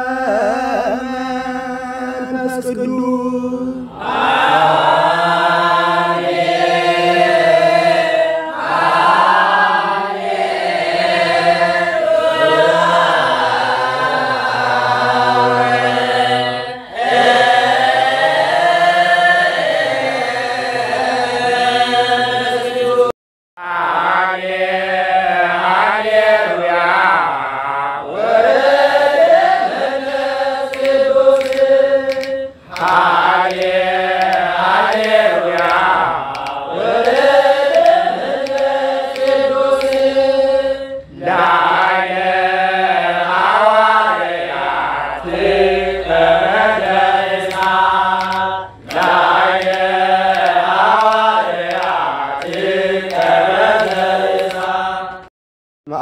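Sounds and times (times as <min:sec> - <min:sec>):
liturgical chant singing: 0:00.0 - 0:55.3.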